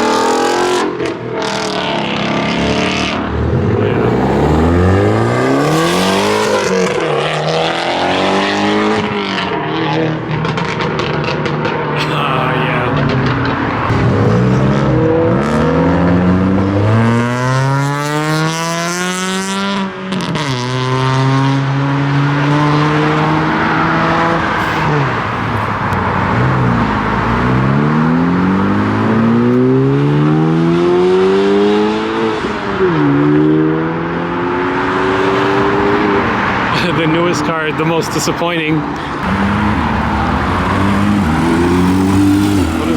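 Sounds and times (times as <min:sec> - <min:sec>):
car engine revving: 0:00.0 - 0:37.7, 0:38.8 - 0:42.9.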